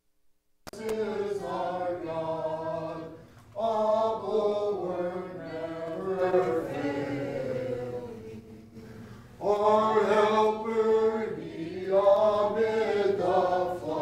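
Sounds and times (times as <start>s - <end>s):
congregation singing a hymn: 0.7s - 14.0s.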